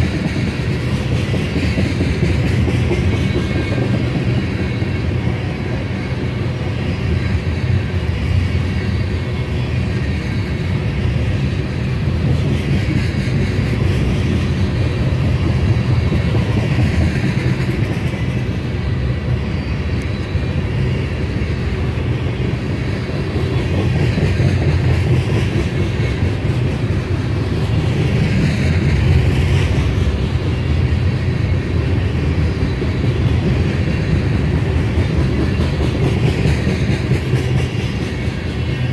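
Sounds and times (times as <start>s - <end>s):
freight train wheels clacking on rails: 0.0s - 38.9s.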